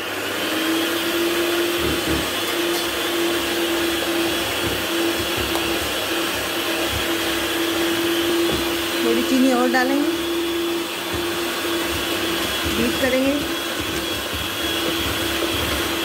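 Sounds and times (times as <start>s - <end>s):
electric hand mixer whine: 0.0s - 16.0s.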